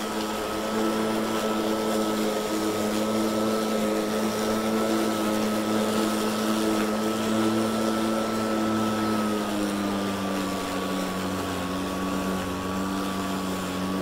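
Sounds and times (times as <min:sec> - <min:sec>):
high-pitched motor whine: 0:00.0 - 0:14.0
lawn mower cutting grass: 0:00.0 - 0:14.0.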